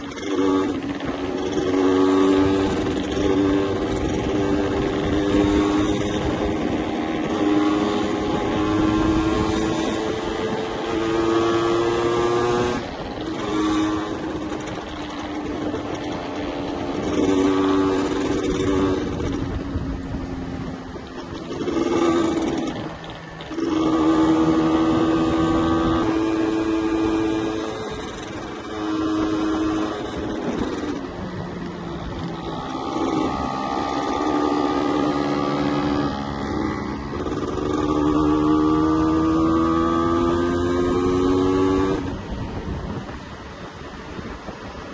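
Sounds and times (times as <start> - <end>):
motorcycle engine revving: 0.0 - 44.9
wind and road noise: 0.0 - 44.9.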